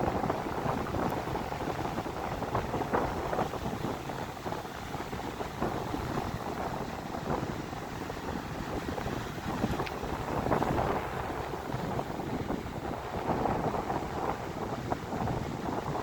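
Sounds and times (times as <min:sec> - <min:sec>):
rough sea rushing: 0:00.0 - 0:16.0
wind buffeting microphone: 0:00.0 - 0:16.0.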